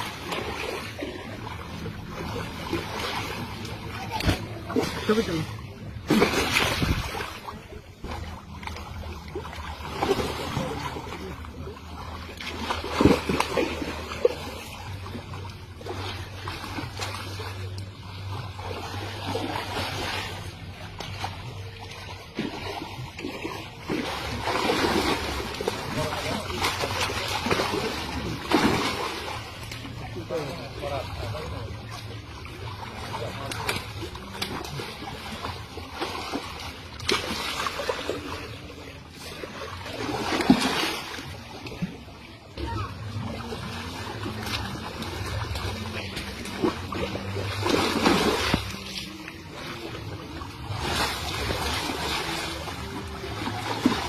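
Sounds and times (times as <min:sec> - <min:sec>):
water sloshing and splashing: 0:00.0 - 0:54.0.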